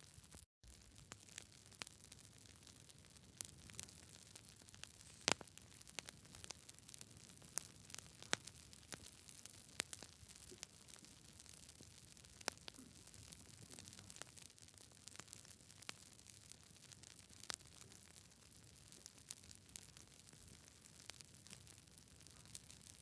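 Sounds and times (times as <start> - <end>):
campfire crackling: 0.3 - 23.0.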